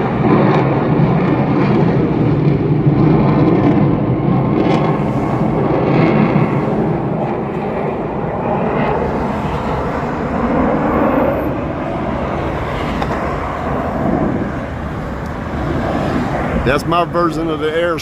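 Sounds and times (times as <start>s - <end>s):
jet aircraft roar: 0.0s - 18.0s
traffic noise: 0.0s - 18.0s.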